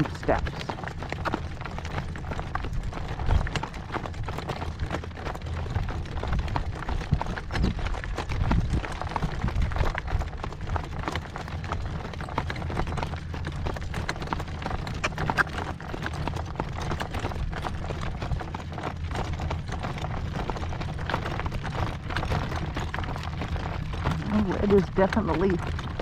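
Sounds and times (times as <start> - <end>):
horse hooves clip-clopping: 0.0 - 26.0
wind rumble on microphone: 0.0 - 26.0.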